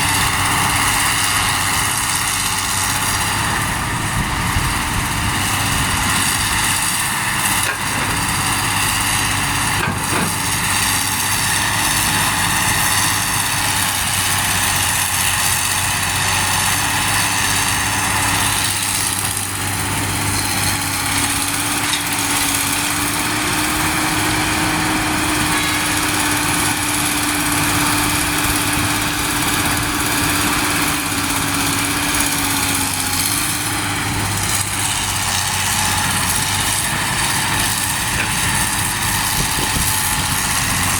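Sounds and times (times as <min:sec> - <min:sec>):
diesel truck engines running: 0:00.0 - 0:40.9.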